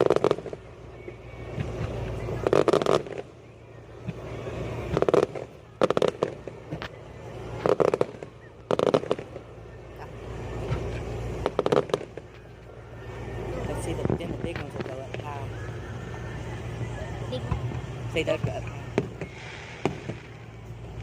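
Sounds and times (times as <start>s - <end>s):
fireworks bangs and pops: 0.0s - 9.6s, 10.2s - 12.6s, 13.6s - 15.5s, 17.4s - 21.0s.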